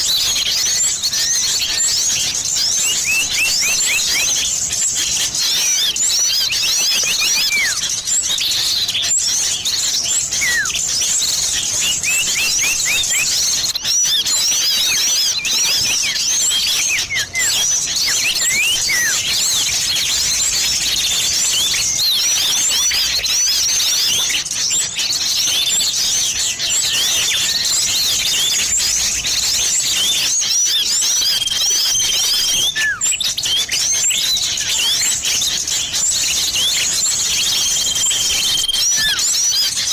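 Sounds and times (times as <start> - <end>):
bird whistle: 0.0 - 39.9
small songbirds chirping: 0.0 - 39.9.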